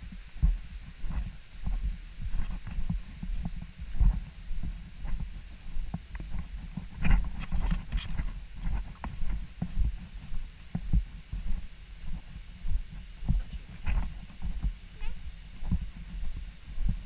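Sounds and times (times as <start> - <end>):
footsteps on gravel trail: 0.0 - 17.0.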